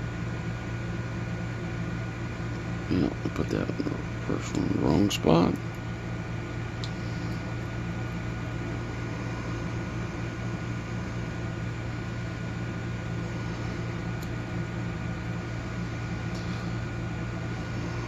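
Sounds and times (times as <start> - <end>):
appliance motor humming: 0.0 - 18.0.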